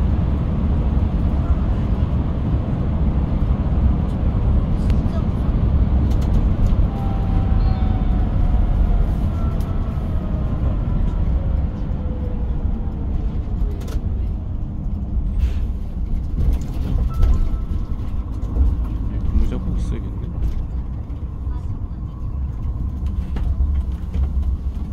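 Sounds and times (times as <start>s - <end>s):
bus engine and tyres rumbling: 0.0s - 24.9s.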